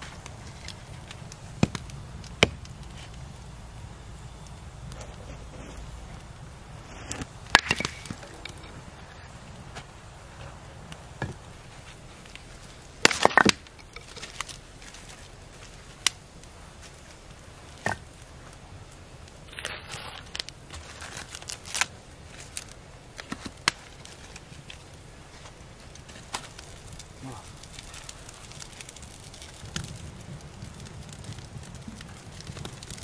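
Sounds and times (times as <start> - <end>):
firewood knocking and clacking: 0.0 - 3.5, 7.0 - 19.0, 19.6 - 33.0.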